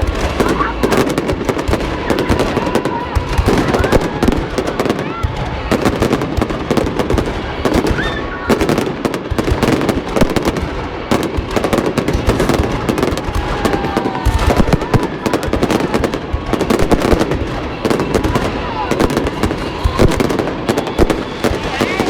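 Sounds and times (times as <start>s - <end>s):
fireworks bangs and crackling: 0.0s - 22.0s
fireworks whistles: 0.0s - 22.0s.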